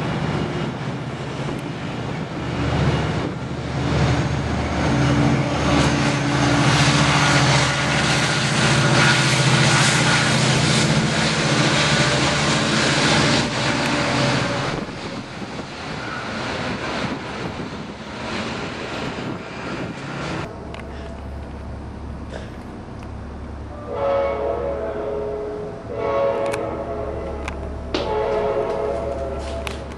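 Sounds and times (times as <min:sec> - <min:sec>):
train clatter: 0:00.0 - 0:23.6, 0:26.3 - 0:29.9
diesel locomotive engine drone: 0:00.0 - 0:29.9.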